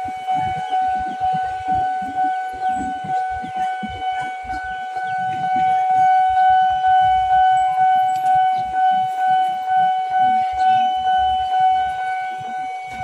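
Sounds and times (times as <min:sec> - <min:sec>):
low rumbling: 0:00.0 - 0:13.0
railway warning alarm tone: 0:00.0 - 0:13.0.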